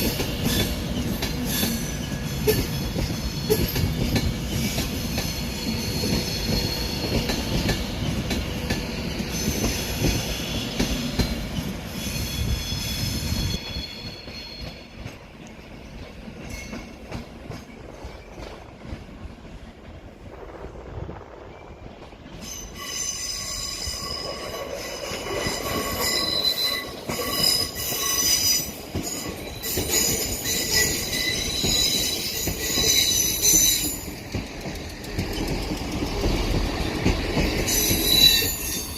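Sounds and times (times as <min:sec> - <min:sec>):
train wheels squealing on rails: 0:00.0 - 0:19.8, 0:21.2 - 0:38.9
train rumbling: 0:00.0 - 0:38.9.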